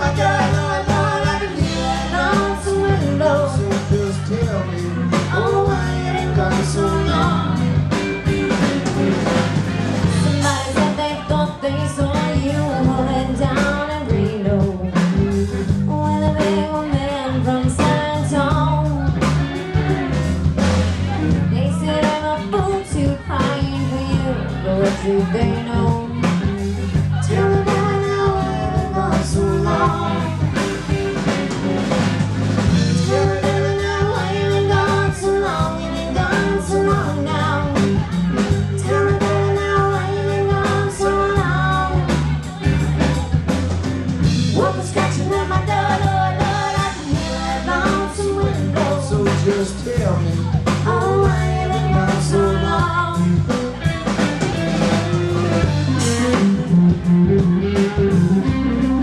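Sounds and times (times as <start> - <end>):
bass guitar: 0.0 - 59.0
bending lead melody: 0.0 - 59.0
drum kit: 0.0 - 59.0.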